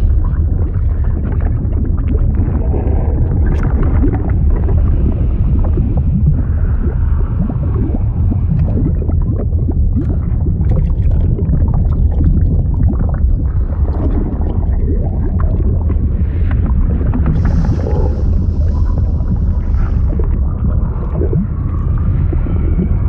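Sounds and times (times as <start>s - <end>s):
deep steady rumble: 0.0s - 23.0s
liquid bubbling and gurgling: 0.0s - 23.0s.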